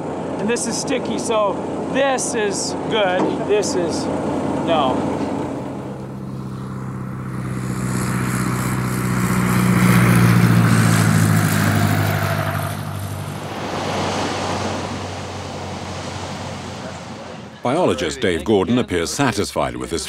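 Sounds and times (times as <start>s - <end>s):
propeller plane droning: 0.0s - 20.0s.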